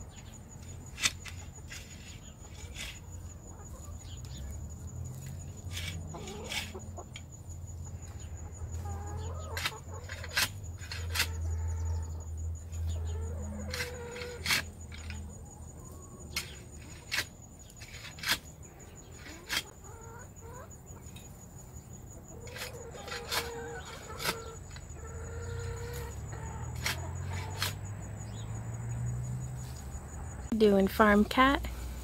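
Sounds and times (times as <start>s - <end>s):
chickens scratching in compost: 0.1s - 20.6s, 22.1s - 28.5s
chickens clucking: 0.1s - 30.2s.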